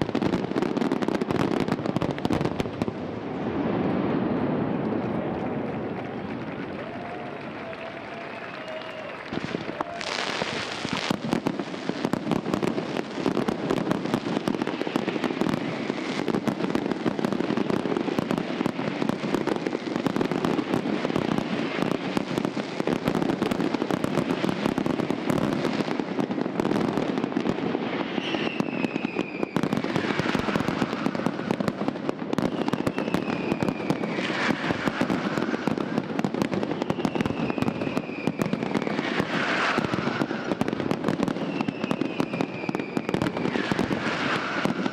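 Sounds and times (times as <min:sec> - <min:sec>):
fireworks falling whistles: 0:00.0 - 0:03.0, 0:06.5 - 0:44.9
fireworks crackling and banging: 0:00.0 - 0:44.9.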